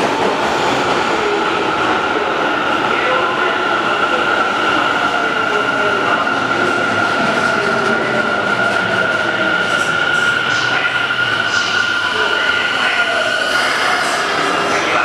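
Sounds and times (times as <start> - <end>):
electric train slowing to a stop: 0.0 - 15.0.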